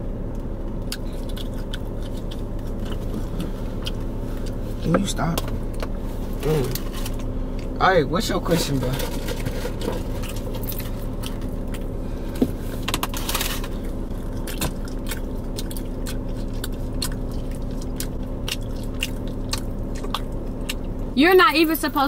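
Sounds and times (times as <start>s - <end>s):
steady low hum: 0.0s - 22.0s
person chewing food loudly: 0.4s - 7.8s, 9.9s - 21.2s.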